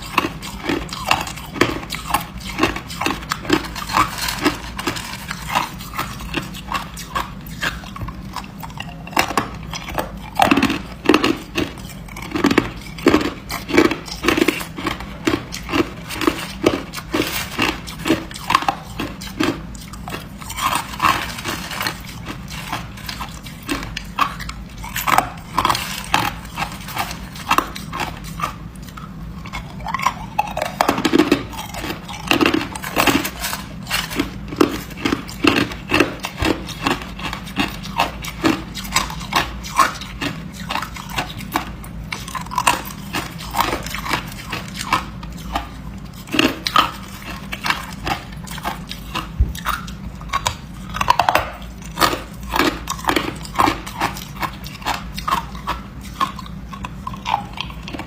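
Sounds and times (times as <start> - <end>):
chewing ice crunches: 0.0 - 58.0.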